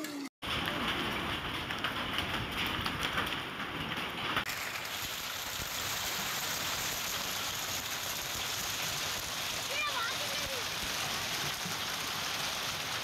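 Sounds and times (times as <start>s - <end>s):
hail falling on ground: 0.4s - 13.0s.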